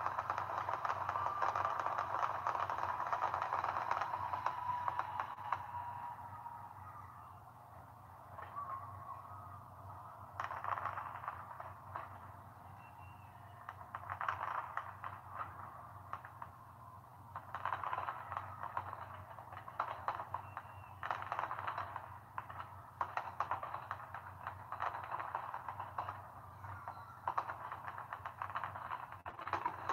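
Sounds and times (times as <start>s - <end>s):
fireworks crackling and popping: 0.0s - 29.9s.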